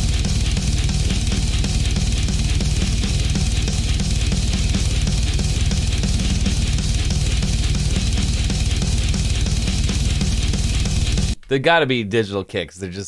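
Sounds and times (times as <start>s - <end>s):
fast kick drums: 0.0s - 11.4s
instrumental heavy metal: 0.0s - 11.4s.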